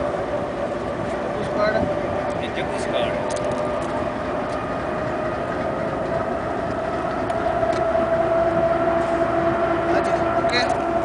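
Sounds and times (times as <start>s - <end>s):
diesel locomotive idling: 0.0s - 11.0s
wind on microphone: 0.0s - 11.0s.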